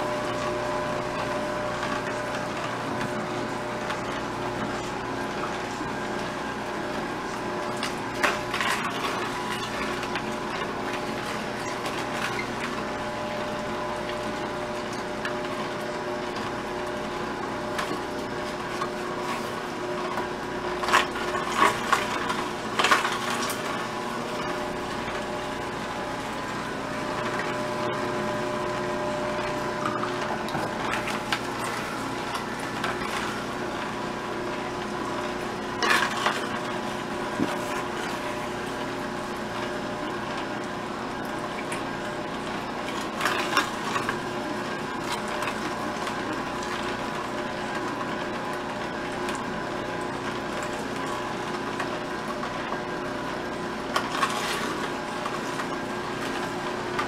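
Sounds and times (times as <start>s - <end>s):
juicer motor hum: 0.0s - 57.0s.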